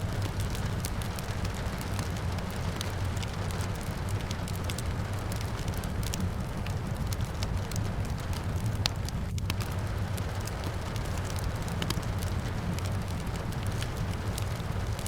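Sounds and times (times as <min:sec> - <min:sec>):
rain falling: 0:00.0 - 0:15.0
wood fire crackling and popping: 0:00.0 - 0:15.0.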